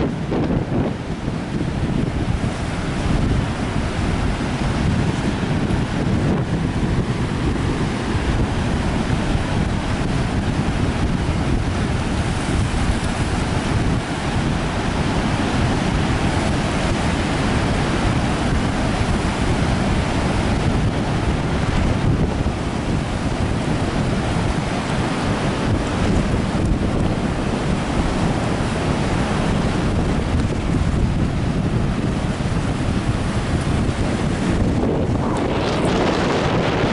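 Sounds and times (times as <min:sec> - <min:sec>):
surf breaking on sandy shore: 0:00.0 - 0:36.9
wind buffeting microphone: 0:00.0 - 0:36.9.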